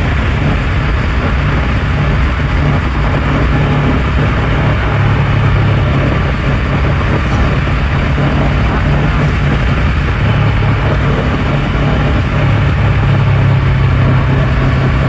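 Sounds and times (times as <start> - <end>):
motorcycle engine running: 0.0 - 15.0
rushing noise: 0.0 - 15.0.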